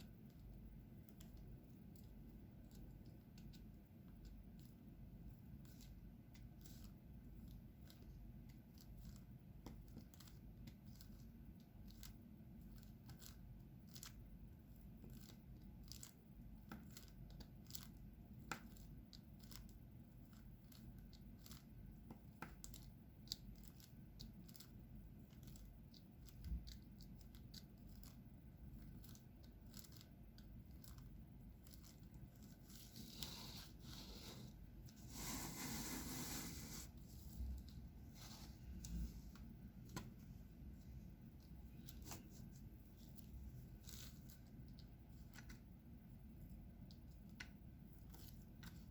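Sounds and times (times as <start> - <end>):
low room hum: 0.0 - 48.9.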